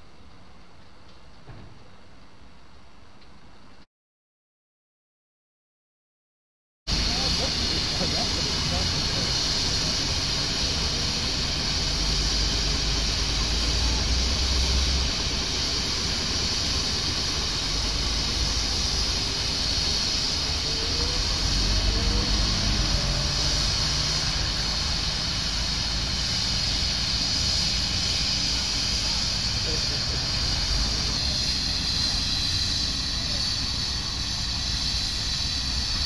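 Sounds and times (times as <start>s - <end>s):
steam engine low rumble: 6.9s - 36.0s
steam hissing: 6.9s - 36.0s.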